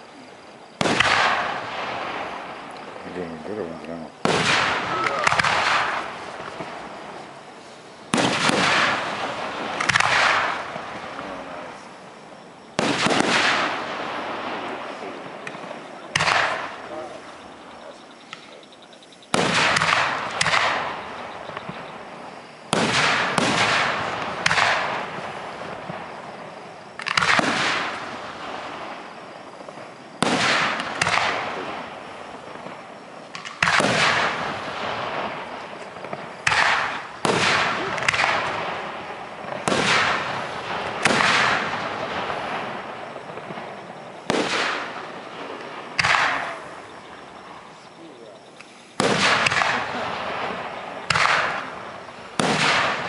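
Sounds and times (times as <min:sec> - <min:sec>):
firework shells bursting: 0:00.6 - 0:17.6, 0:19.3 - 0:47.8, 0:48.6 - 0:53.0.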